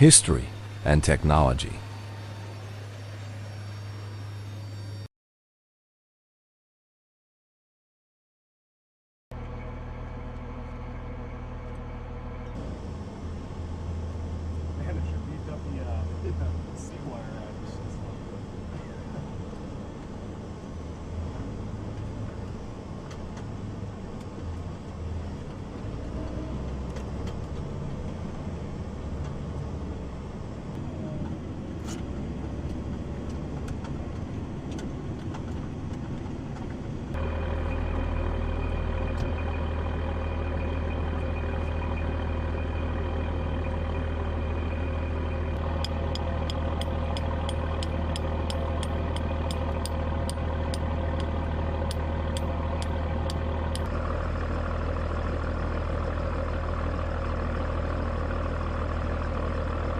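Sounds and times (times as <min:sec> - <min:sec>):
heavy engines running: 0:00.0 - 0:05.0, 0:09.4 - 0:59.9.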